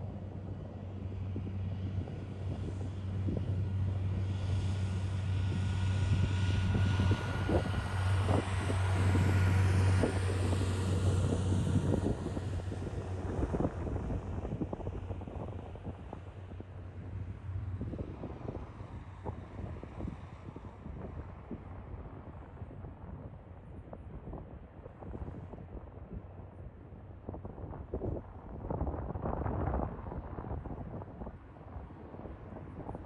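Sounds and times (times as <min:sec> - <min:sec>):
engine whine: 0:00.0 - 0:33.0.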